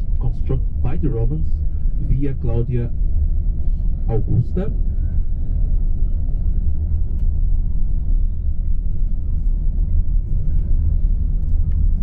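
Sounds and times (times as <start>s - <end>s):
bus engine and tyres rumbling: 0.0s - 12.0s.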